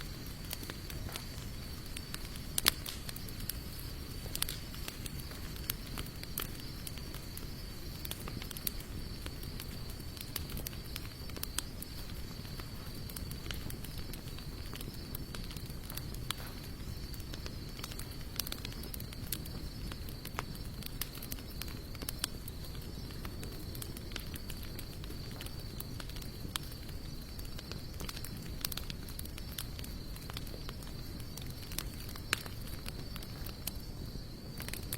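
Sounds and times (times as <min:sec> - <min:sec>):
campfire crackling and popping: 0:00.0 - 0:34.9
low fire rumble: 0:00.0 - 0:34.9.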